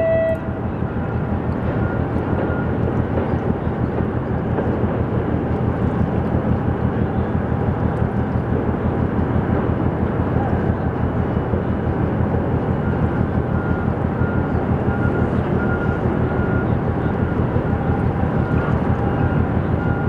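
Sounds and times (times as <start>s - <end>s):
busy port din: 0.0s - 20.0s
deep diesel engine rumble: 0.0s - 20.0s.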